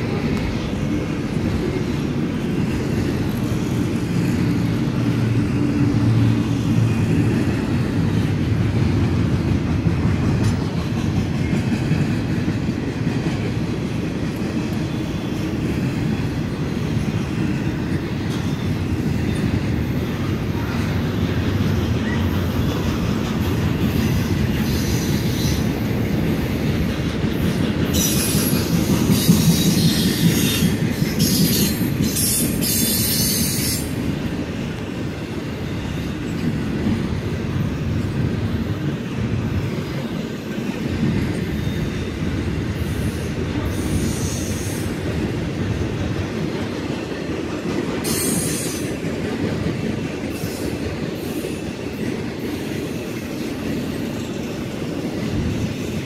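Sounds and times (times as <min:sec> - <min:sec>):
freight cars rumbling on rails: 0:00.0 - 0:56.0.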